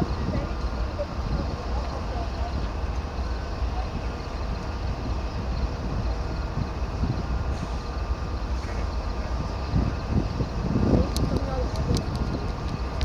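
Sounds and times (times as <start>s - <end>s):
locomotive engines rumbling: 0.0s - 13.0s.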